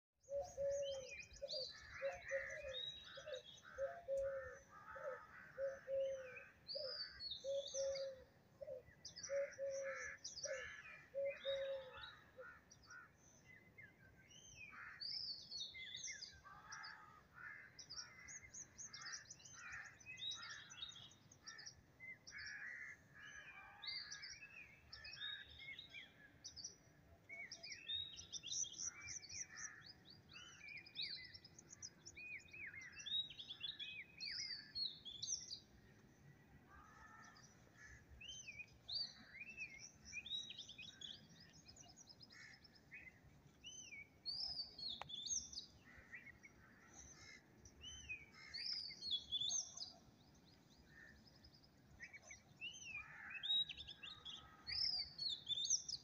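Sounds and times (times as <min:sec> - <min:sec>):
birds chirping and trilling: 0:00.2 - 0:56.0
low repeated bird call: 0:00.2 - 0:56.0.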